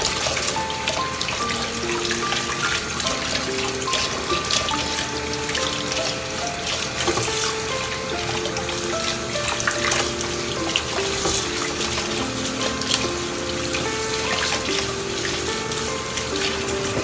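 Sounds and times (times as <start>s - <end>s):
background music with held notes: 0.0s - 17.0s
tap water running into sink: 0.0s - 17.0s.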